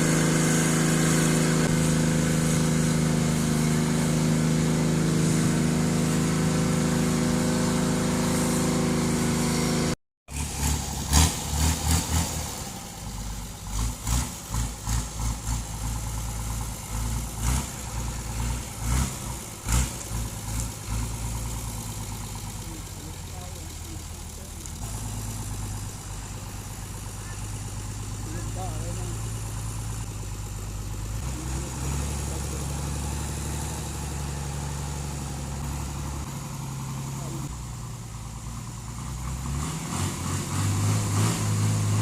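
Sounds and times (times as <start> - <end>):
diesel boat engine running: 0.0 - 42.0.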